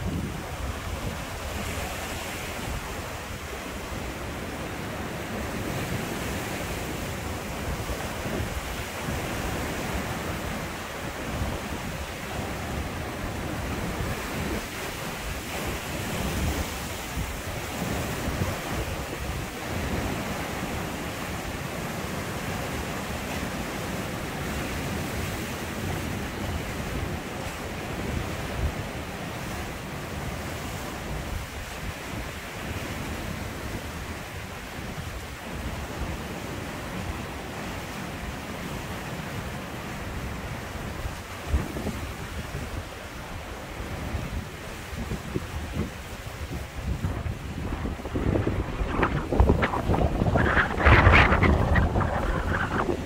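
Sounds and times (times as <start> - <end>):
wind gusting on microphone: 0.0 - 38.4, 39.2 - 53.0
sea surf breaking over rocks: 0.0 - 53.0.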